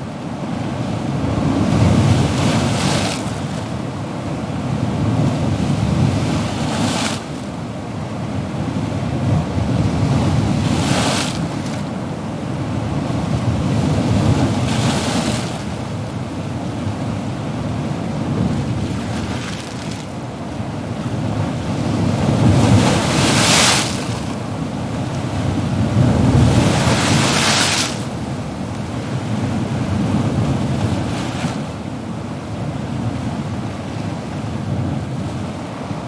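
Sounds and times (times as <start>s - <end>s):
ocean waves breaking on shore: 0.0s - 36.0s.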